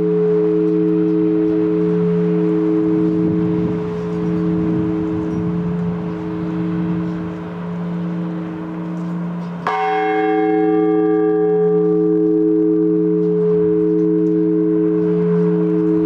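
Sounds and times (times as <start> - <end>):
large church bell tolling: 0.0 - 16.0.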